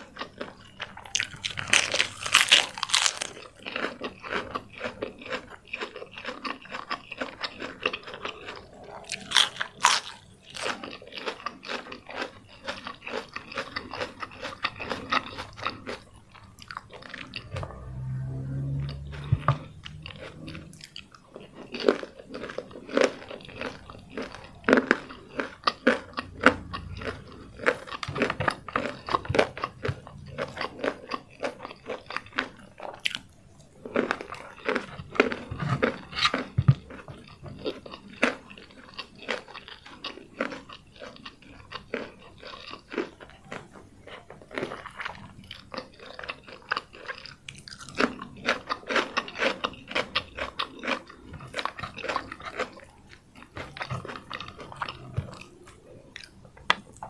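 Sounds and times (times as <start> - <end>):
chewing crispy fried chicken: 0.0 - 57.0.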